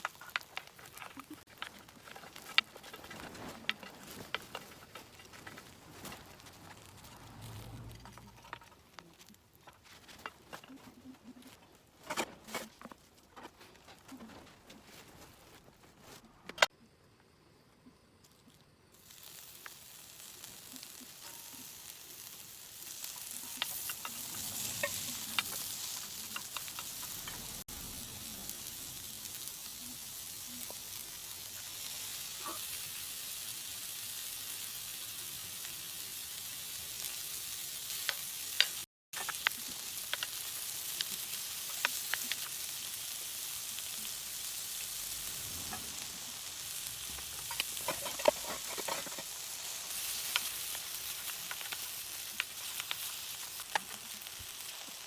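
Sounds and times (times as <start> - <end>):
food sizzling in a pan: 0.0 - 12.7, 19.0 - 55.0
oil crackling and popping: 0.0 - 16.7, 18.5 - 55.0.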